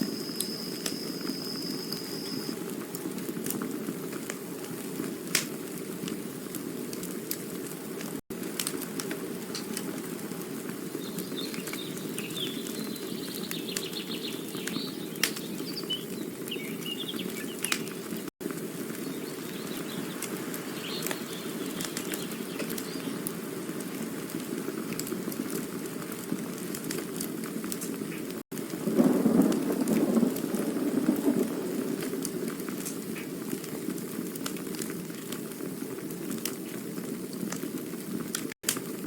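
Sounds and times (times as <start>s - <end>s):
campfire hissing: 0.0s - 39.0s
fire crackles and pops: 0.0s - 39.0s.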